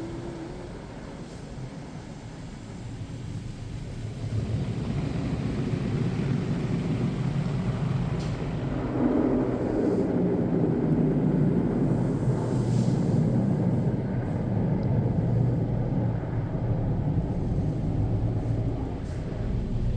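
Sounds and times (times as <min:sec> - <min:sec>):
car wash machinery rumbling: 0:00.0 - 0:19.9.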